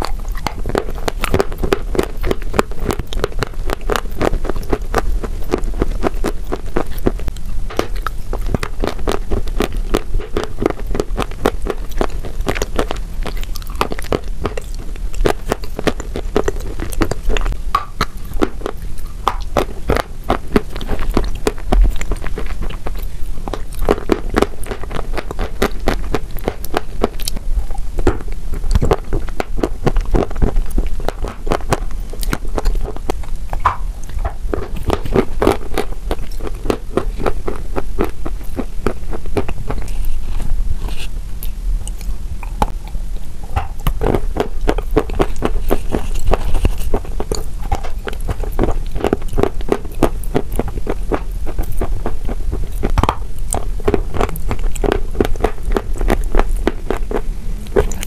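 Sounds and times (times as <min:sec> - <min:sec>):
chewing wet crunchy chalk: 0:00.0 - 0:58.0.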